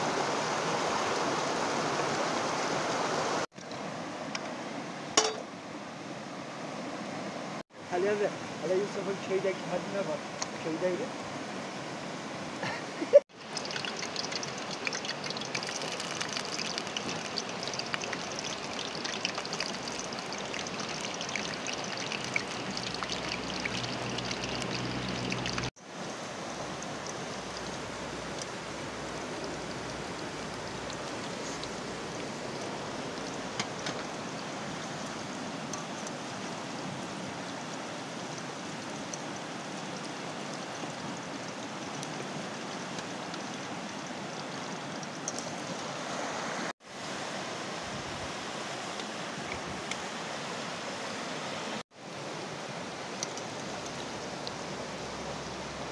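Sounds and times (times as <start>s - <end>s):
creek water running: 0.0s - 55.9s.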